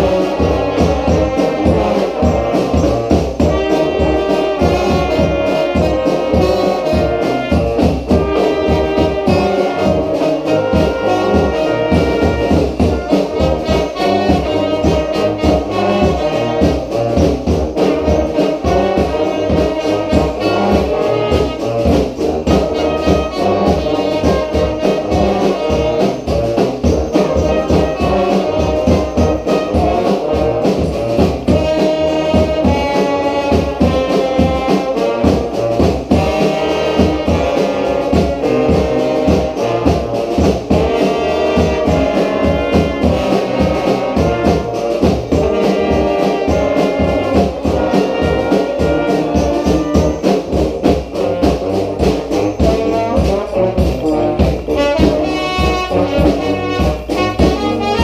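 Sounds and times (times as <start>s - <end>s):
bass and snare drum beat: 0.0s - 58.0s
brass band playing: 0.0s - 58.0s.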